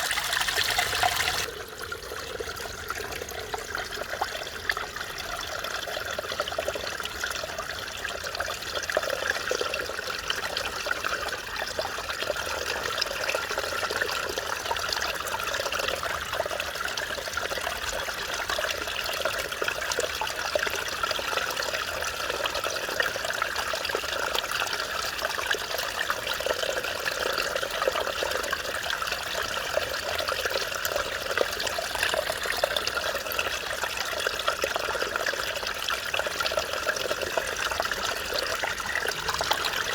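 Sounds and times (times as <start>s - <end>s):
stream water babbling over rocks: 0.0s - 39.9s.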